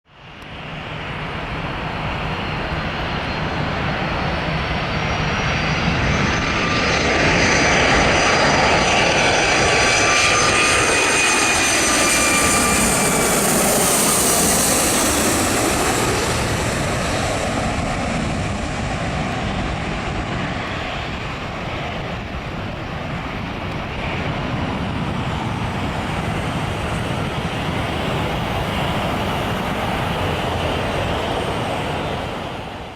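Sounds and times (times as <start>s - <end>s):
jetliner passing overhead: 0.1s - 32.9s.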